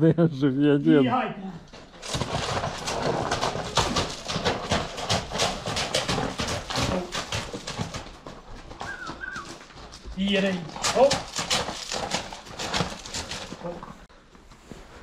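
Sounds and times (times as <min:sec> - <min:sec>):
horse hooves clattering: 0:01.6 - 0:15.0.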